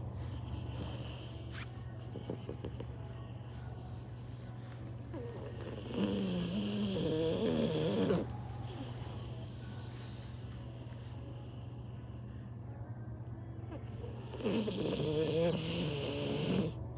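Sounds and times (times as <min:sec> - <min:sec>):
dog snoring: 0:00.3 - 0:03.8, 0:05.1 - 0:12.2, 0:13.8 - 0:16.8.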